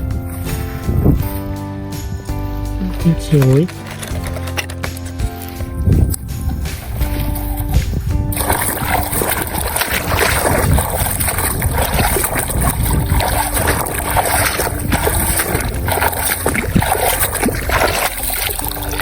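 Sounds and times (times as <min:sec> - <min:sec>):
faint background music: 0:00.0 - 0:19.0
water splashing and sloshing: 0:00.0 - 0:19.0.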